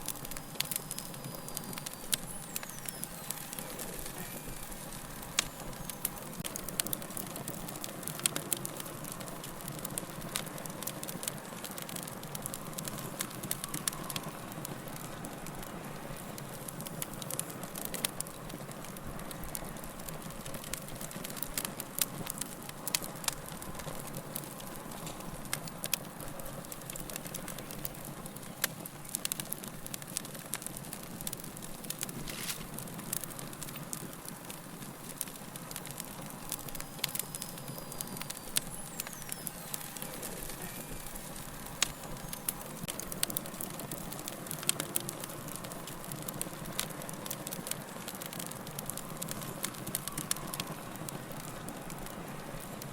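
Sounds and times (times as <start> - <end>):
logs crackling and popping: 0.0 - 52.9
wood fire hissing: 0.0 - 52.9.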